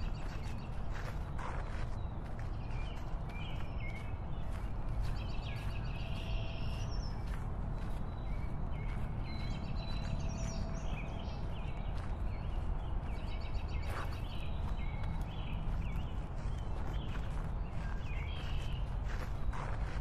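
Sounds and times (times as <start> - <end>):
birds chirping and trilling: 0.0 - 20.0.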